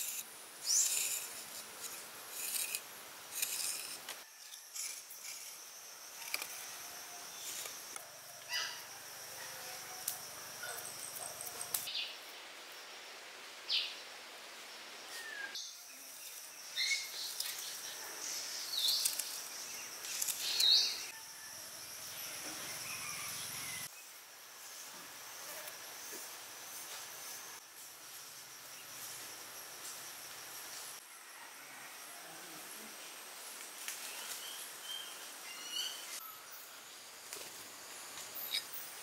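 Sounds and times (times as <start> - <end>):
insect drone: 0.0 - 39.0.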